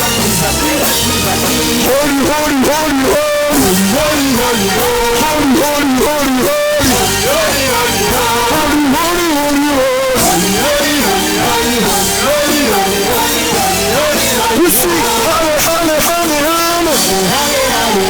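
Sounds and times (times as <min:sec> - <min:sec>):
drum kit: 0:00.0 - 0:18.0
guitar: 0:00.0 - 0:18.0
sliding melody line: 0:01.0 - 0:18.0.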